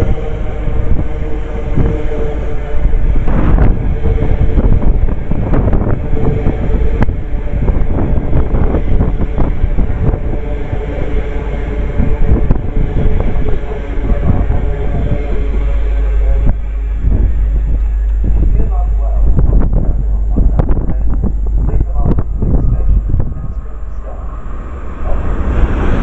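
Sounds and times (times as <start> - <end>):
train running with clicks: 0.0 - 26.0
wind buffeting microphone: 0.0 - 26.0.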